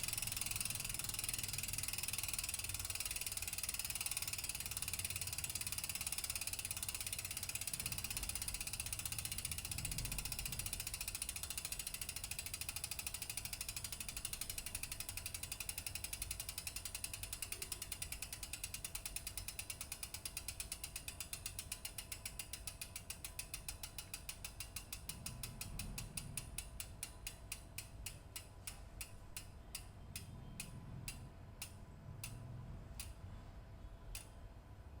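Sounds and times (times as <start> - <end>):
bicycle freehub ratcheting clicks: 0.0 - 33.3, 34.0 - 34.4.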